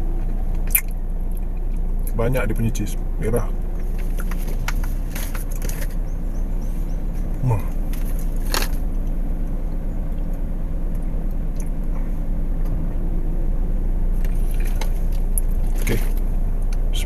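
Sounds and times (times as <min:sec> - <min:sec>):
car idling hum: 0:00.0 - 0:17.0.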